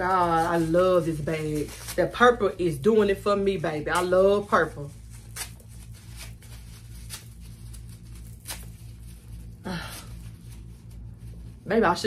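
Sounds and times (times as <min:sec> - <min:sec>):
paper crinkling: 0:00.0 - 0:12.0
steady low hum: 0:00.0 - 0:12.0.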